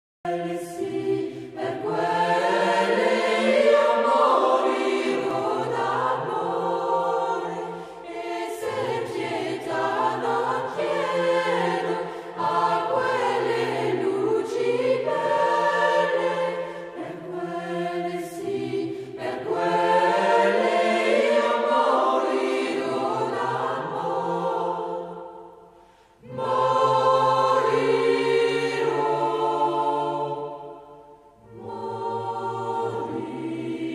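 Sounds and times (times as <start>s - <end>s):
choir singing held chords: 0.3s - 33.9s.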